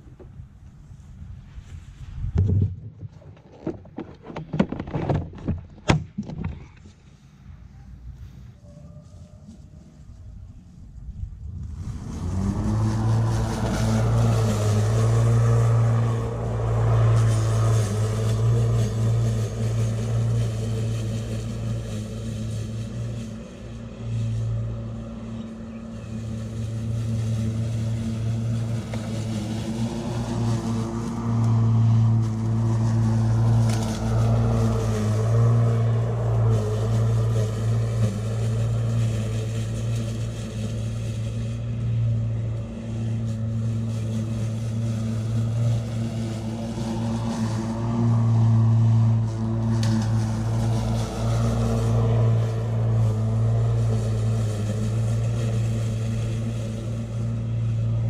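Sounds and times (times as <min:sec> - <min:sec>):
electric lawn mower running: 0:11.4 - 0:58.0.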